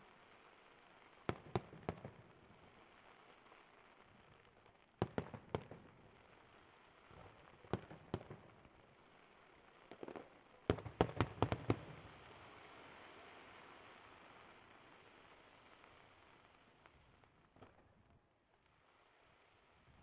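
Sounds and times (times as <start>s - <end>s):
firework crackles: 0.0s - 20.0s.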